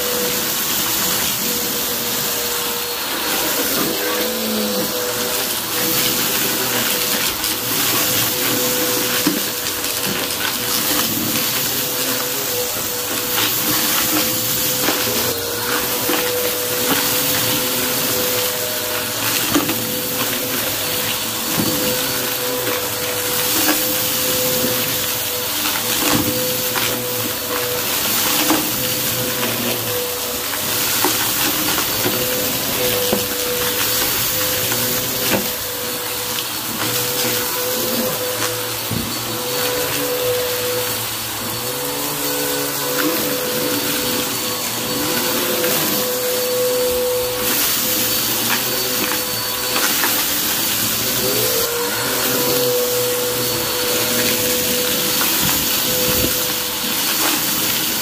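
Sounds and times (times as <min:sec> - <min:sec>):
debris crackling in vacuum nozzle: 0:00.0 - 0:58.0
vacuum cleaner running: 0:00.0 - 0:58.0.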